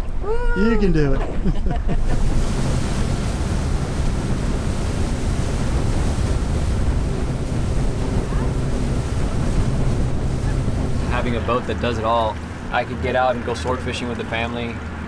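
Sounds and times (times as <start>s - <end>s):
water rushing from boat hull: 0.0s - 15.0s
wind buffeting microphone: 0.0s - 15.0s.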